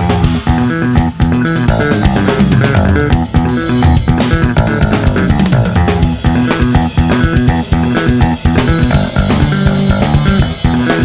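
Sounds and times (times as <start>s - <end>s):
drum kit groove: 0.0s - 11.0s
electric bass riff: 0.0s - 11.0s.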